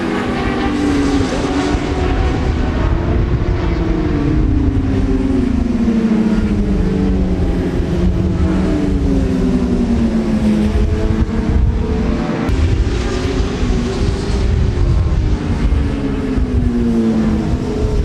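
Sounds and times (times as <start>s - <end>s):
racing motorcycle engines: 0.0s - 18.0s.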